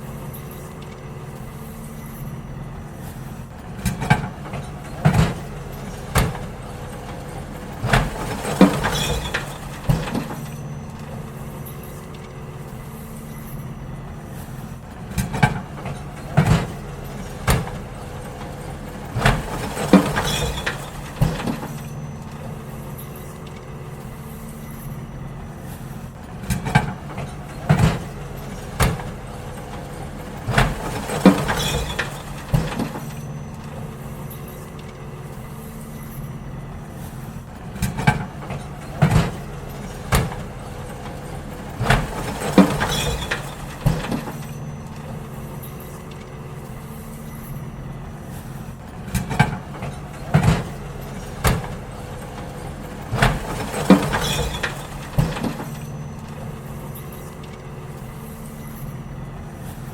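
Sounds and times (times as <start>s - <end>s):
bins clanking against hopper: 0.0s - 59.9s
garbage truck engine running: 0.0s - 59.9s.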